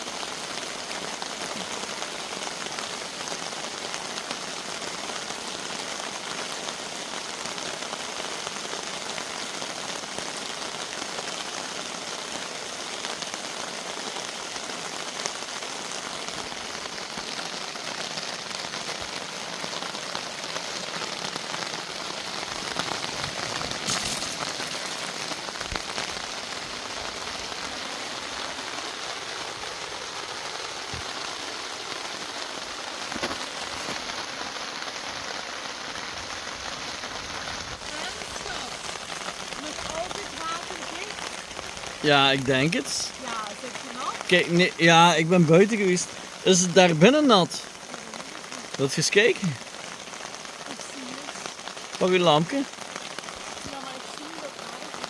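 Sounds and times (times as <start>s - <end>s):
heavy rain pattering on tent: 0.0s - 55.0s.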